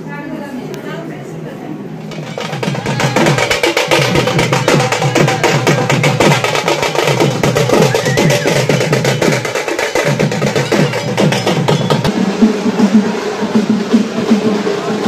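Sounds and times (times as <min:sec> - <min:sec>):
drums beaten in fast rhythm: 0:02.0 - 0:15.0.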